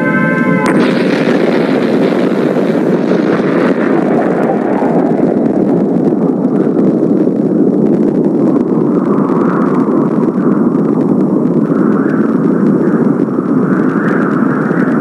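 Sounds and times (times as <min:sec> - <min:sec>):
explosion rumbling roar: 0:00.0 - 0:15.0.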